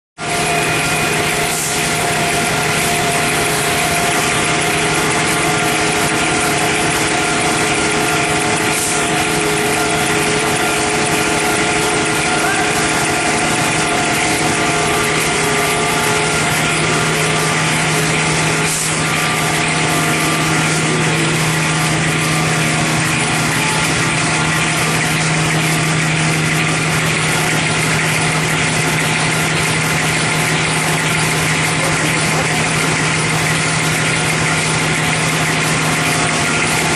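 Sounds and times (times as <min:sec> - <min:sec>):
log saw machine running: 0:00.2 - 0:36.9.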